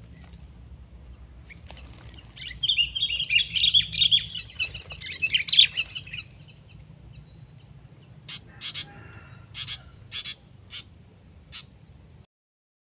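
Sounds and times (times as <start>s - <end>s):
bulbuls chattering calls: 1.0s - 11.8s.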